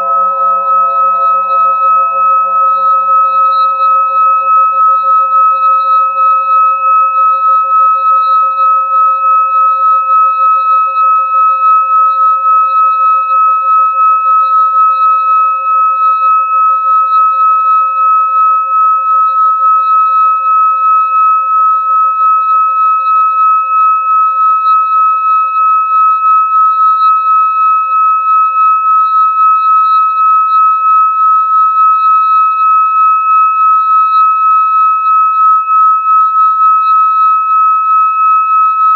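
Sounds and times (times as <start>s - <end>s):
singing bowl ringing: 0.0s - 38.9s.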